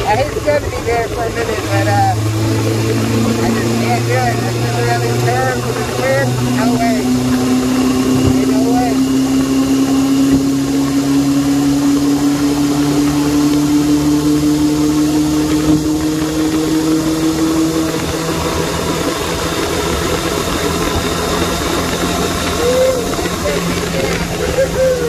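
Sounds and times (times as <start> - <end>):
motorcycle engine running: 0.0 - 25.0
rushing noise: 0.0 - 25.0.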